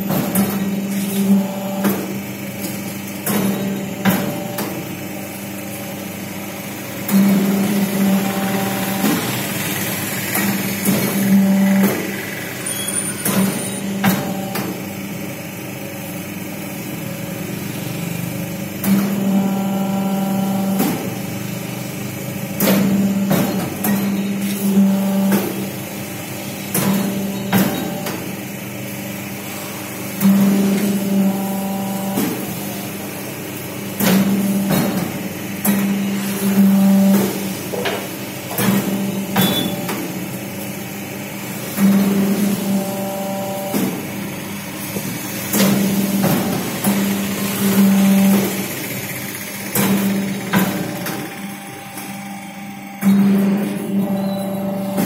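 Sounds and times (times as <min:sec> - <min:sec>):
machine motor hum: 0:00.0 - 0:55.0.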